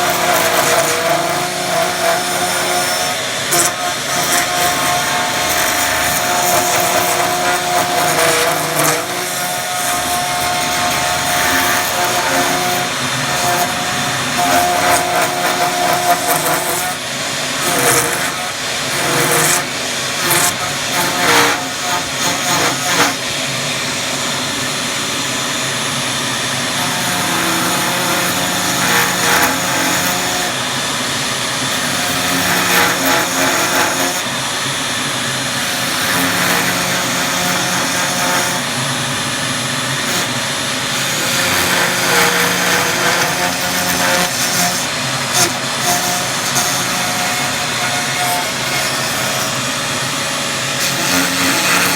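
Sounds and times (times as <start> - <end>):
power tool running under load: 0.0 - 51.9.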